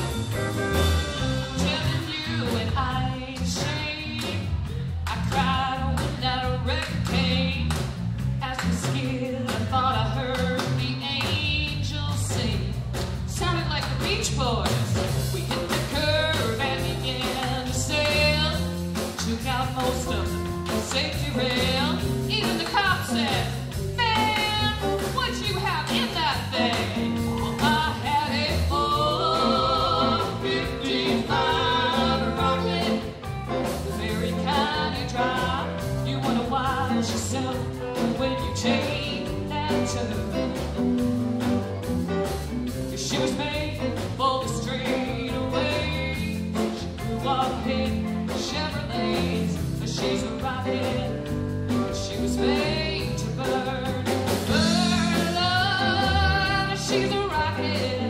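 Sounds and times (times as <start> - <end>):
electric guitars: 0.0 - 5.8, 15.0 - 58.0
bass: 0.0 - 58.0
drums keeping steady beat: 0.0 - 58.0
woman singing into microphone: 1.5 - 4.5, 5.1 - 7.7, 8.4 - 18.6, 19.2 - 40.8, 43.0 - 58.0.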